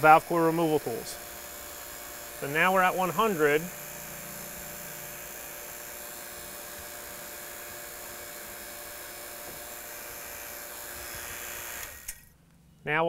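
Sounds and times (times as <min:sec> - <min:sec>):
vacuum pump humming: 0:00.0 - 0:12.7.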